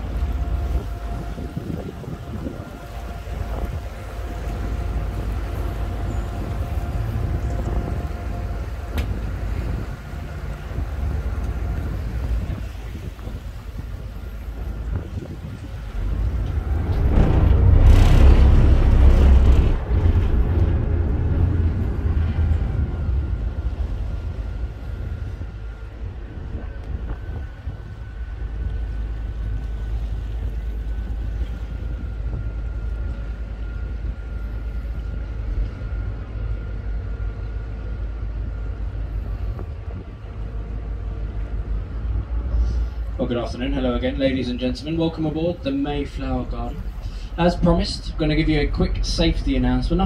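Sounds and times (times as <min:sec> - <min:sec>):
boat engine rumble: 0:00.0 - 0:50.0
faint constant hum: 0:00.0 - 0:50.0
wind buffeting microphone: 0:00.0 - 0:50.0.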